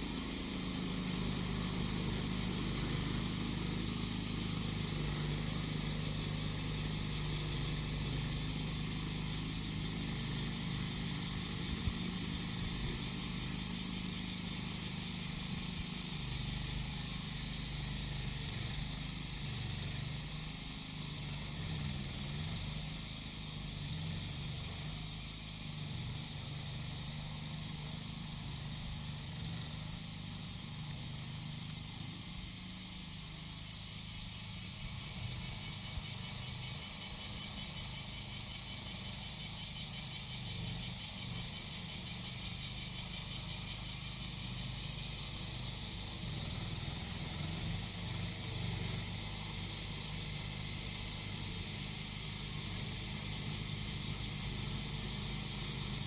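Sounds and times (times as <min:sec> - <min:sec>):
cicadas singing: 0:00.0 - 0:56.0
lawn mower engine running: 0:00.0 - 0:56.0.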